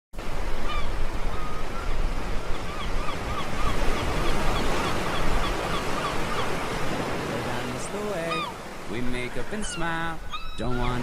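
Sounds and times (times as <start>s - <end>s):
ocean surf rushing: 0.2s - 11.0s
birds chirping: 0.7s - 11.0s.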